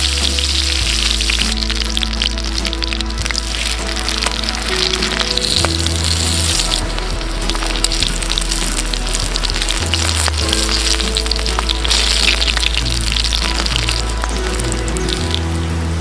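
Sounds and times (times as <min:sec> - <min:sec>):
meat sizzling on grill: 0:00.0 - 0:15.5
background music with bass: 0:00.0 - 0:16.0.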